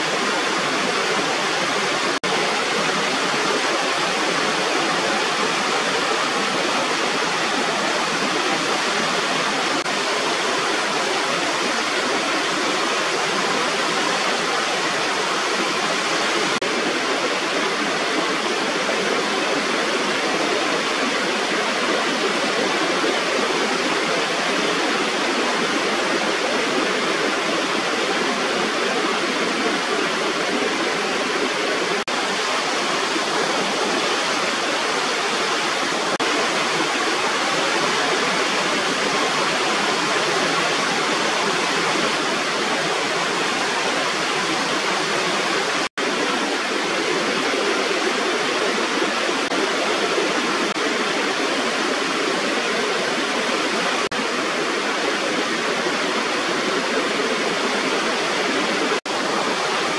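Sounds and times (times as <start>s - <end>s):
water rushing over a weir: 0.0s - 59.9s.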